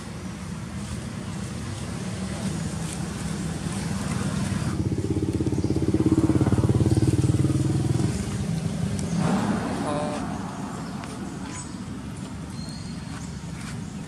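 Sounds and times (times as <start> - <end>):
vehicle engine pulsing hum: 0.0 - 14.0.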